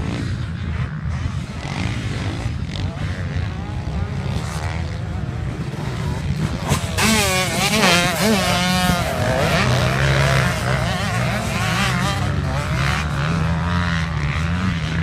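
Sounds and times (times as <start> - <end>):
motorbike engines revving: 0.0 - 15.0.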